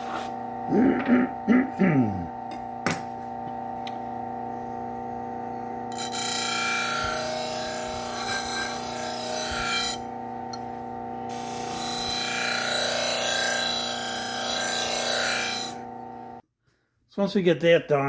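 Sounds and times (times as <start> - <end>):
honing wheel humming: 0.5 - 16.4.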